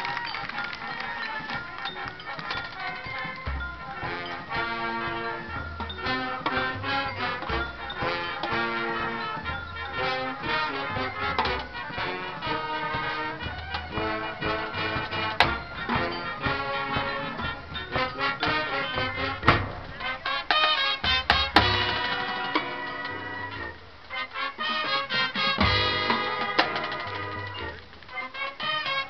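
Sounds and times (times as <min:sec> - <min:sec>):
marching band playing: 0:00.0 - 0:29.0.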